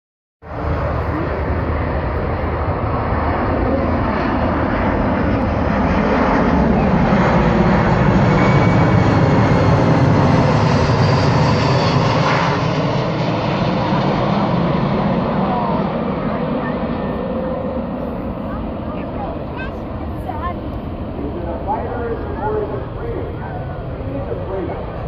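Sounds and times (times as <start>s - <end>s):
jet engines rumbling overhead: 0.4s - 25.0s.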